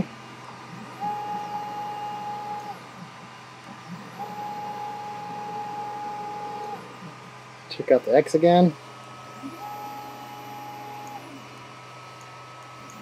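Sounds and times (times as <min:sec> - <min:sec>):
stepper motor whine: 0:00.0 - 0:13.0.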